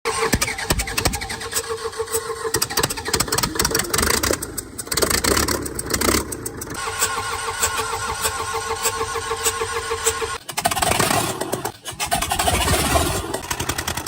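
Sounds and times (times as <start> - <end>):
engine running with rapid ticking: 0.1 - 14.0.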